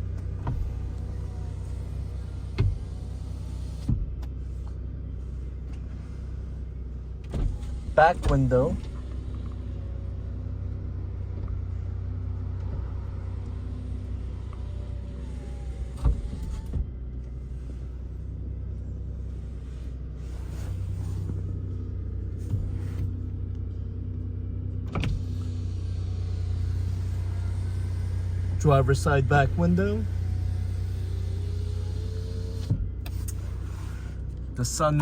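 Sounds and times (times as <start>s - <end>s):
power window motor whine: 0.0s - 5.0s, 7.2s - 18.8s, 20.2s - 34.8s
car engine idling: 0.0s - 35.0s.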